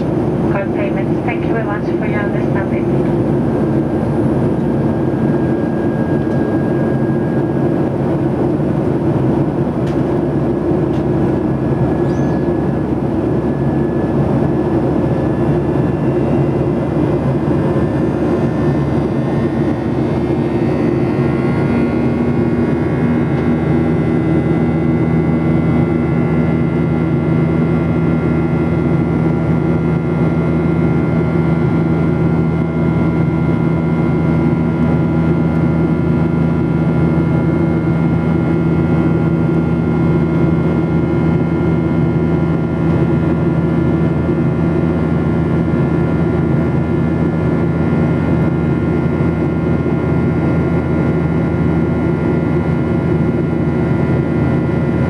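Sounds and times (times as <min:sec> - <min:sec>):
jet engine cabin drone: 0:00.0 - 0:55.0.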